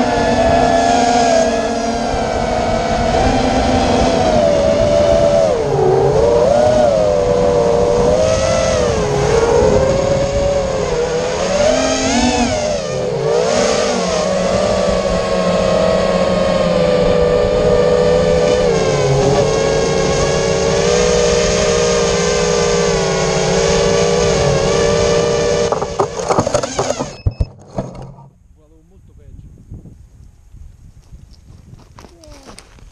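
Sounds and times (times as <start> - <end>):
quadcopter motors whining: 0.0 - 28.3.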